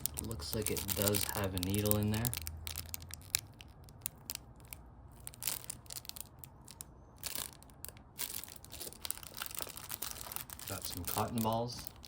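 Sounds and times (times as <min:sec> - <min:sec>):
packaging crinkling: 0:00.0 - 0:12.0
small items clicking and tapping: 0:00.0 - 0:12.0.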